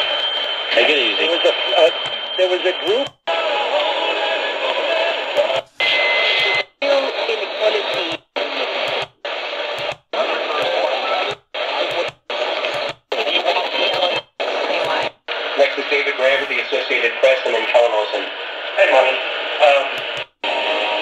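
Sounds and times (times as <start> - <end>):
radio music: 0.0 - 21.0
radio static: 0.0 - 21.0
radio talk: 0.0 - 21.0.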